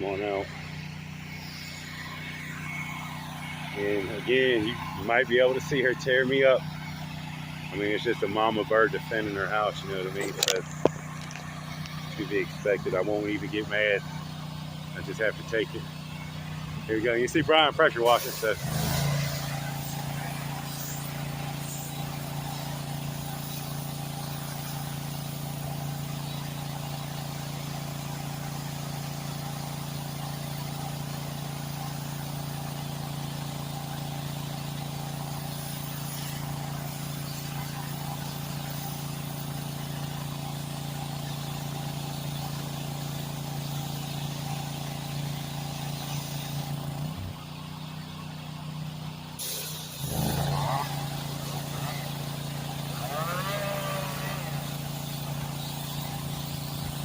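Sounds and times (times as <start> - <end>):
pressure washer engine droning: 0.0 - 57.0.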